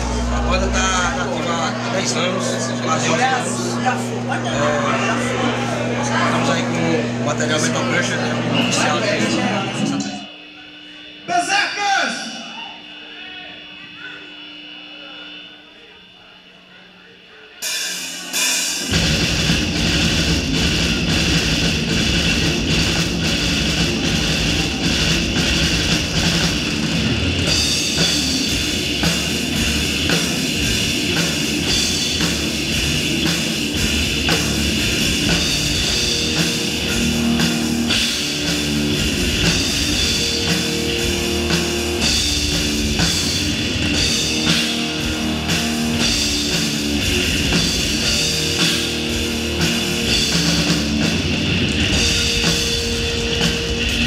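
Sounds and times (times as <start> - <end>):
heavy metal band playing live: 0.0 - 10.3, 17.6 - 54.0.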